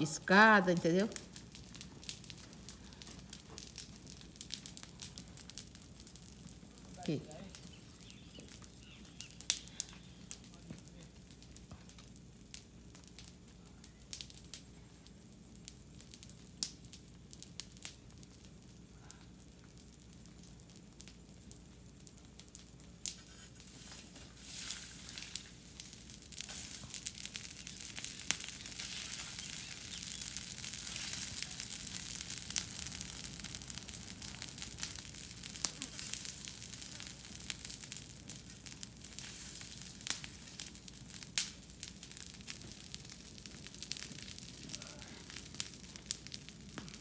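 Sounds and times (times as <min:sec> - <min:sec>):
brush fire crackling and popping: 0:00.0 - 0:47.0.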